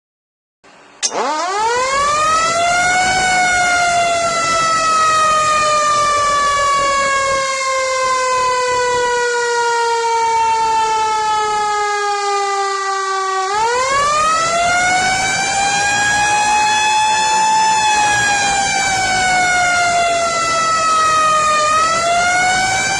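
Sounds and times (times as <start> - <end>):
fire engine siren: 1.0 - 22.9.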